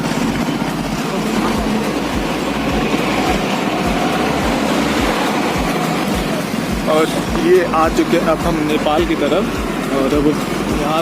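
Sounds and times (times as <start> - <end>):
motorcycle riding noise: 0.0 - 11.0.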